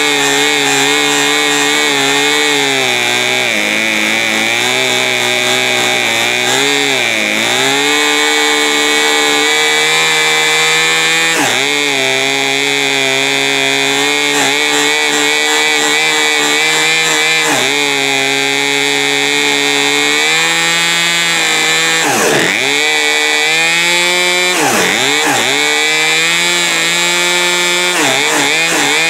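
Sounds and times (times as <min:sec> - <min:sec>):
chainsaw engine idling: 0:00.0 - 0:29.0.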